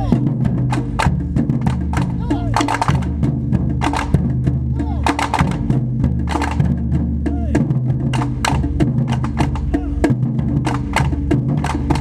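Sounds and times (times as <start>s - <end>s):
ensemble of drums striking: 0.0s - 12.0s.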